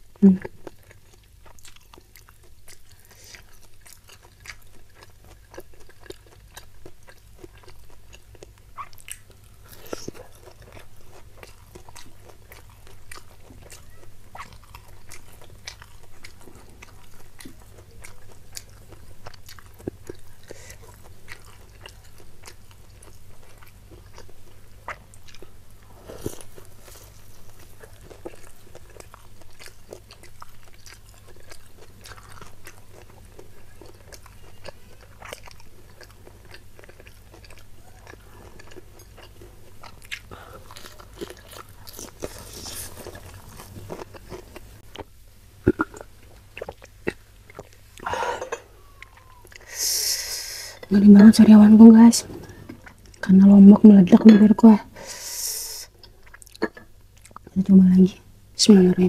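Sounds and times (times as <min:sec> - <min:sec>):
crunchy biting and chewing: 0:00.4 - 0:50.9, 0:52.2 - 0:53.3.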